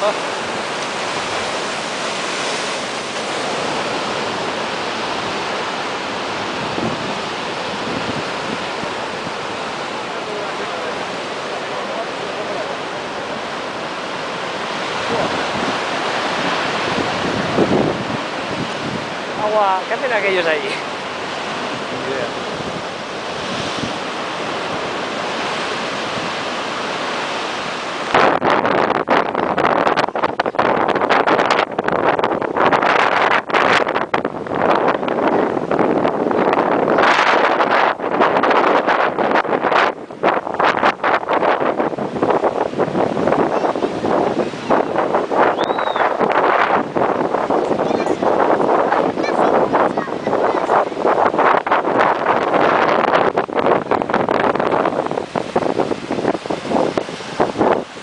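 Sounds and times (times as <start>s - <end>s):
storm surf breaking: 0.0s - 58.0s
wind buffeting microphone: 0.0s - 58.0s.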